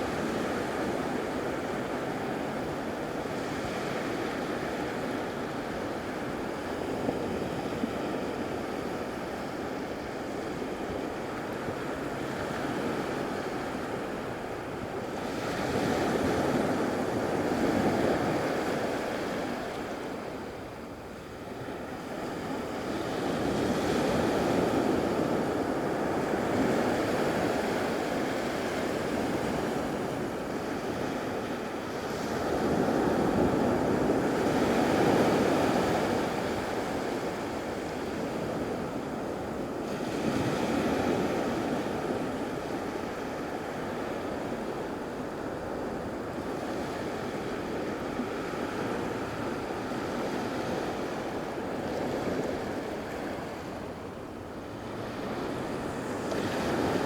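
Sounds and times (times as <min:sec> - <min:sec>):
surf washing on sandy beach: 0:00.0 - 0:57.0.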